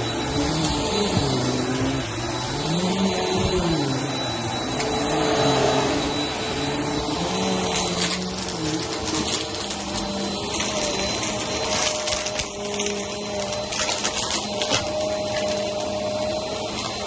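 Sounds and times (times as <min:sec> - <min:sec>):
vacuum cleaner motor droning: 0:00.0 - 0:17.0.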